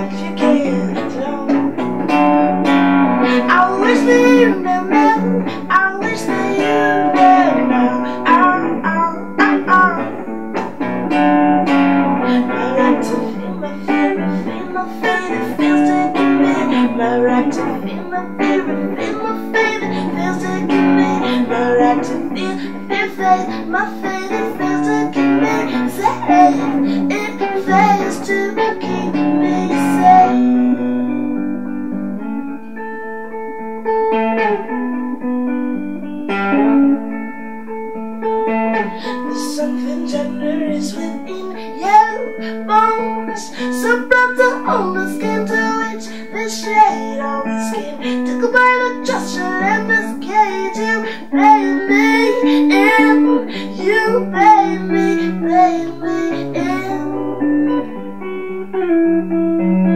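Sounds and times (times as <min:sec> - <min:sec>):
woman singing: 0:00.0 - 0:31.2, 0:38.7 - 0:58.0
electric guitar through amp: 0:00.0 - 0:59.9.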